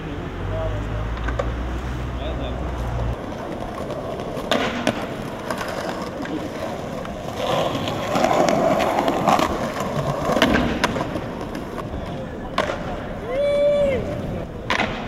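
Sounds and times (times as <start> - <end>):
skateboard wheels rolling on stone: 1.0 - 15.0
skateboard clacks: 1.1 - 1.7, 2.9 - 15.0.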